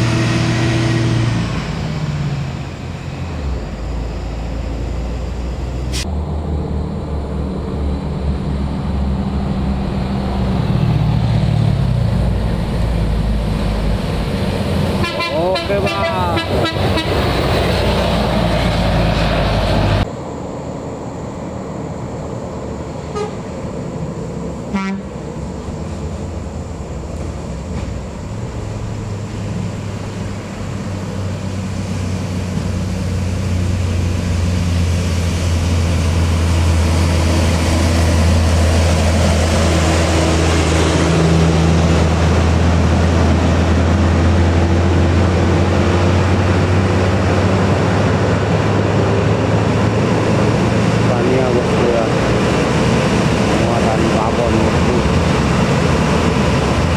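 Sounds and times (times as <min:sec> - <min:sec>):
truck diesel engine under load: 0:00.0 - 0:56.9.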